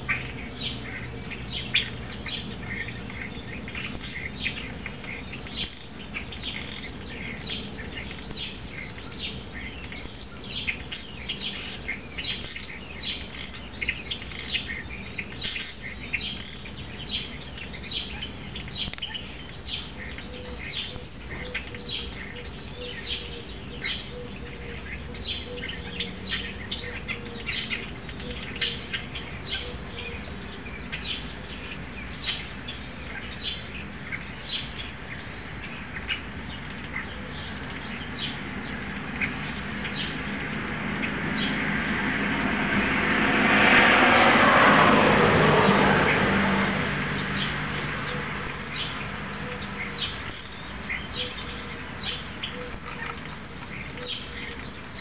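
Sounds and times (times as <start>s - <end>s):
small birds chirping: 0.0s - 43.0s, 45.1s - 55.0s.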